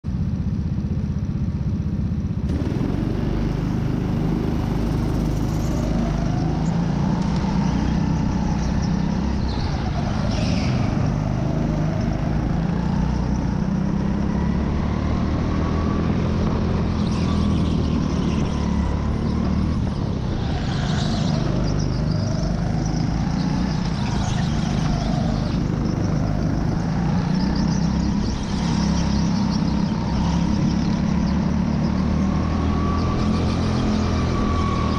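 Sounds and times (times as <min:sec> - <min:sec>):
go-kart motor drone: 0:00.1 - 0:34.9.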